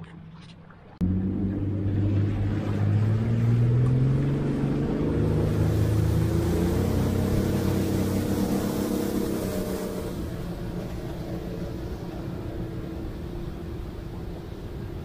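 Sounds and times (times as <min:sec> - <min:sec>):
motorboat engine running: 0:01.0 - 0:15.0
steady wash of noise: 0:01.0 - 0:15.0.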